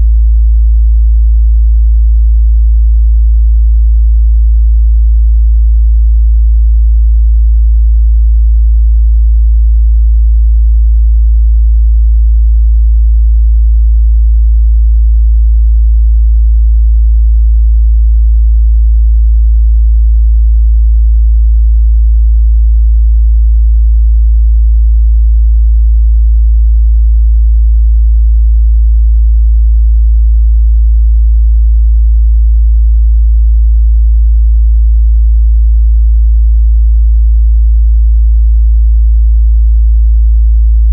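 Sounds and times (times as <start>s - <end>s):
low sine-wave test tone: 0.0s - 40.9s.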